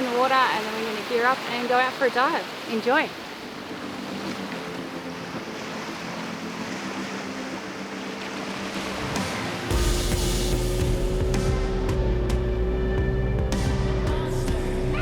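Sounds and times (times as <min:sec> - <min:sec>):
wind: 0:00.0 - 0:13.6
sea: 0:00.0 - 0:15.0
music: 0:01.5 - 0:15.0.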